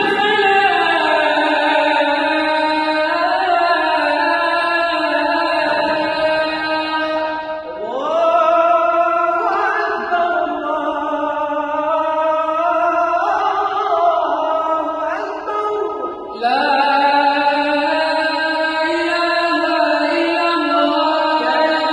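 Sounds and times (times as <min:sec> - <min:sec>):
person chanting: 0:00.0 - 0:21.9.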